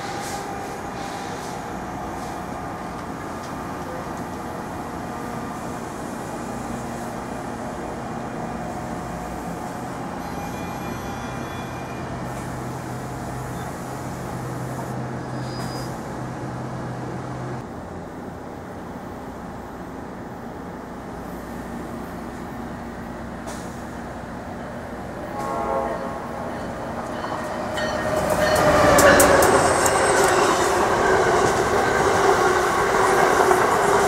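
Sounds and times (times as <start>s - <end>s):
electric train hum and rumble: 0.0s - 34.0s.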